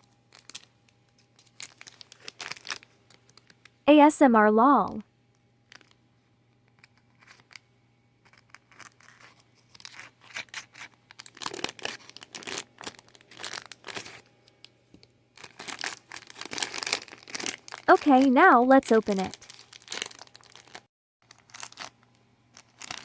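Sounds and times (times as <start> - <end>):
packaging crinkling and tearing: 0.0 - 3.7, 5.6 - 6.0, 6.8 - 7.6, 8.2 - 14.6, 15.4 - 23.0.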